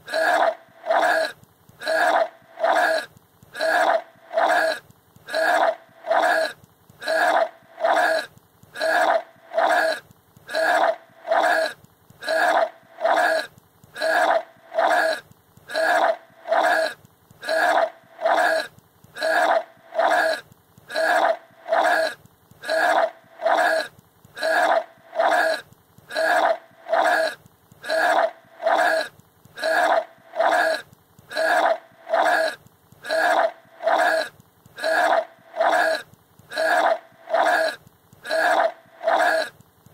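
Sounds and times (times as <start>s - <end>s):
boy retching and gagging: 0.1s - 39.6s.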